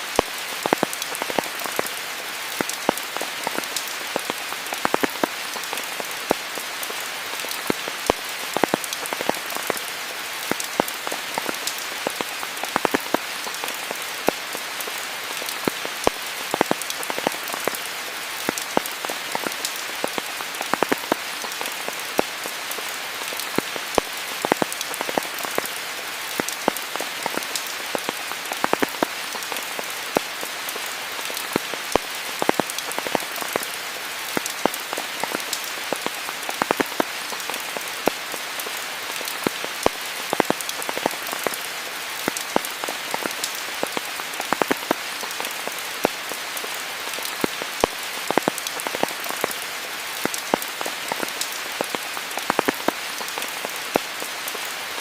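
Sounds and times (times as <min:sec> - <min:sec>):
rain hiss: 0:00.0 - 0:55.0
raindrops tapping close by: 0:00.0 - 0:55.0.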